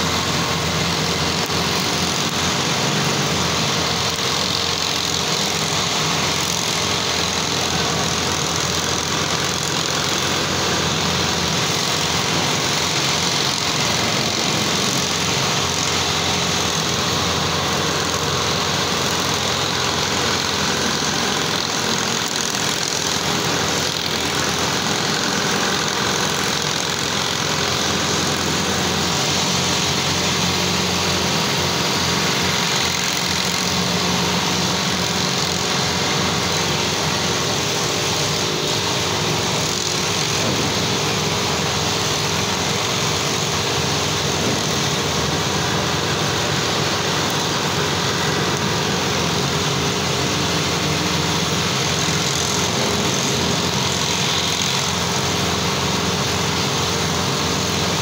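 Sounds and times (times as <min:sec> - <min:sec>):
industrial machinery noise: 0:00.0 - 0:58.0.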